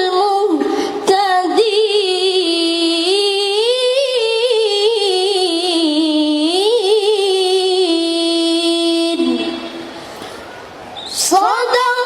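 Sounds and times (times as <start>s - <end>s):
woman chanting melodically: 0.0s - 10.0s, 11.1s - 12.0s.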